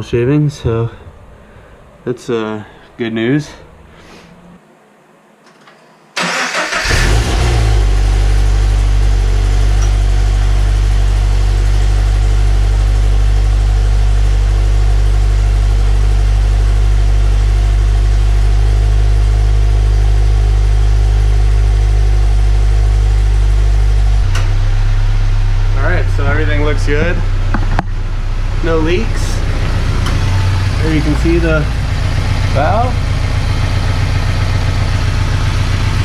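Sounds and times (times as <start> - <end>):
car engine starting and idling: 6.2 - 36.0.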